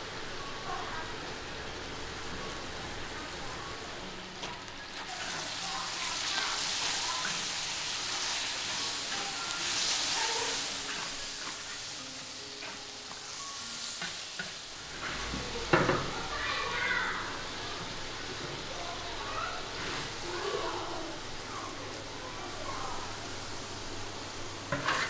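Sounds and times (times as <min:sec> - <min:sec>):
meat sizzling in a wok: 0:00.0 - 0:25.0.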